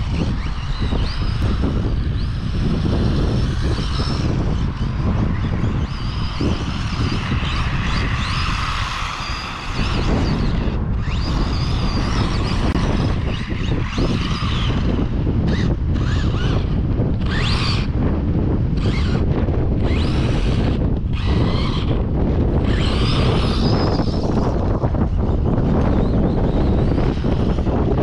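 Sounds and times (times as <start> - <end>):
rc truck electric motor whine: 0.0 - 28.0
wind buffeting microphone: 0.0 - 28.0.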